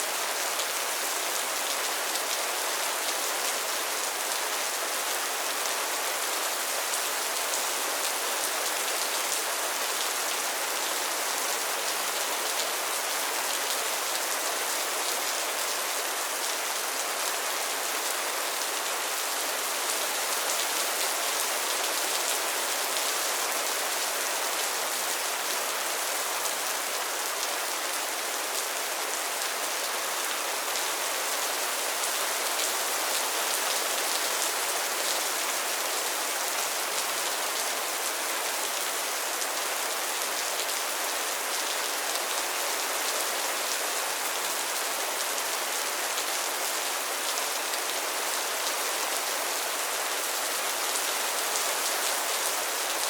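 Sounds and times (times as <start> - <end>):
rain falling on pond water: 0.0 - 53.0.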